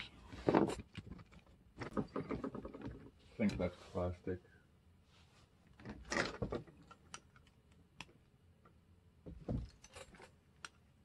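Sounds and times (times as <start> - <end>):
clicks and knocks handling model parts: 0.2 - 3.7, 5.6 - 11.0.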